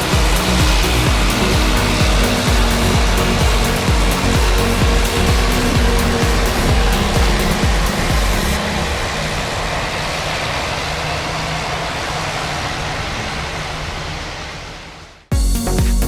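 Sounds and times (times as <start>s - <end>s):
steady rushing outdoor noise: 0.0s - 15.3s.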